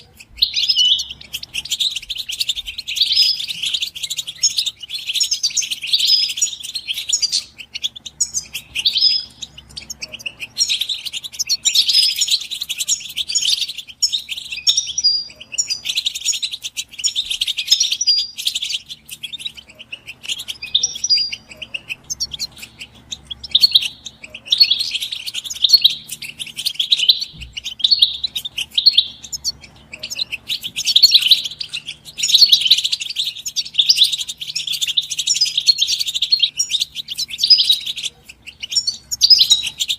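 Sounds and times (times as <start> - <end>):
finches twittering and singing: 0.0 - 39.9.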